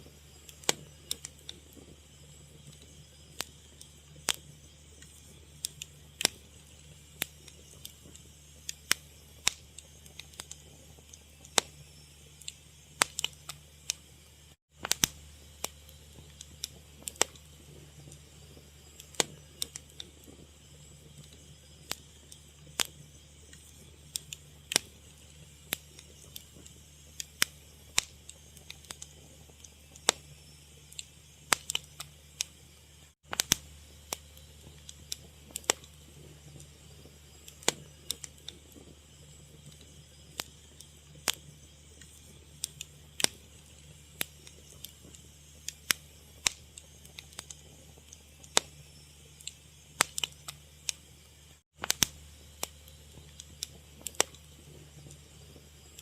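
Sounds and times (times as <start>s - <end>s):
low steady hum: 0.0s - 56.0s
wood fire crackling: 0.0s - 56.0s.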